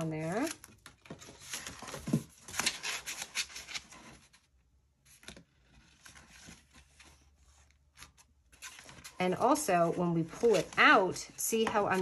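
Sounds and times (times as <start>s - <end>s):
paper rustling and scraping: 0.2s - 4.5s, 5.1s - 12.0s.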